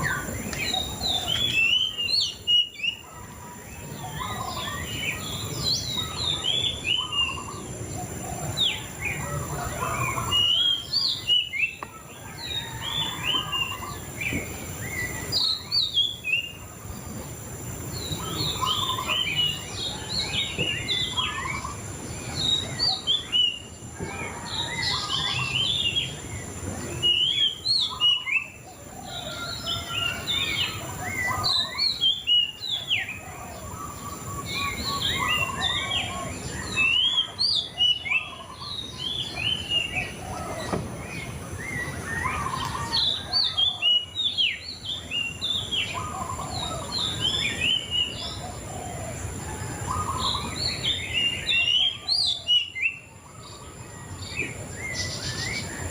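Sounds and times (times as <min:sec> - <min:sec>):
songbird chirping and whistling: 0:00.0 - 0:17.2, 0:17.8 - 0:55.9.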